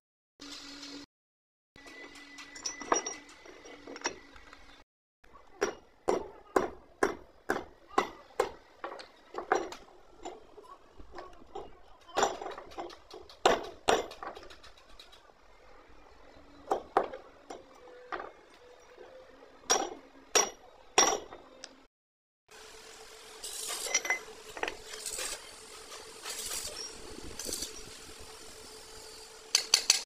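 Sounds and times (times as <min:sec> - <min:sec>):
workshop din: 0:01.8 - 0:21.9, 0:23.3 - 0:30.0.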